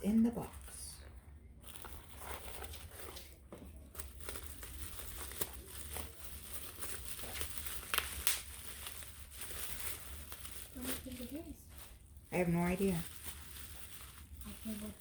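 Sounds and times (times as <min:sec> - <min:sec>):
paper packaging crinkling: 0:00.0 - 0:15.0.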